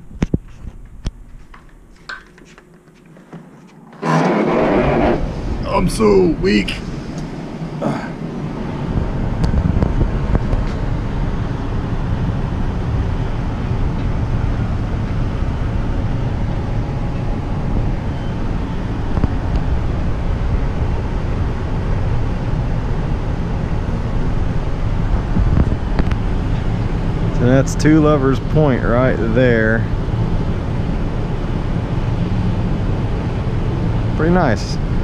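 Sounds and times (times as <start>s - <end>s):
wind buffeting microphone: 4.4s - 34.2s.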